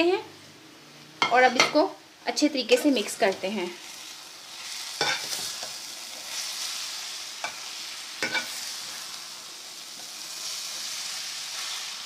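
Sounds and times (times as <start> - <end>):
food sizzling in ghee: 0.0 - 12.0.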